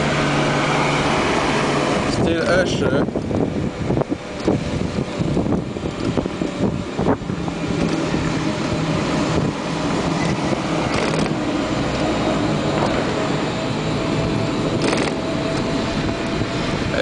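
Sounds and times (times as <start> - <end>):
road noise: 0.0 - 17.0
wind noise: 0.0 - 17.0
electric motor humming: 3.1 - 16.8.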